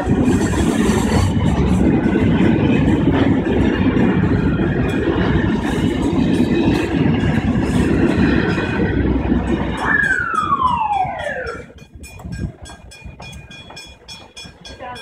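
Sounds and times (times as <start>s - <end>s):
freight train wagons rumbling: 0.0s - 15.0s.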